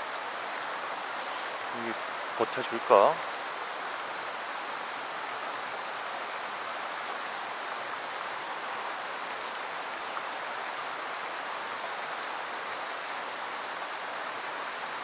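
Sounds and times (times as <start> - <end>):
river water running over stones: 0.0 - 15.0.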